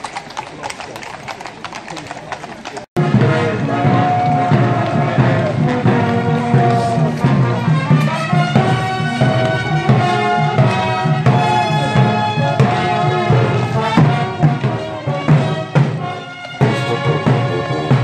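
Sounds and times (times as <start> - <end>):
music with steady beat and percussion: 3.0 - 18.0.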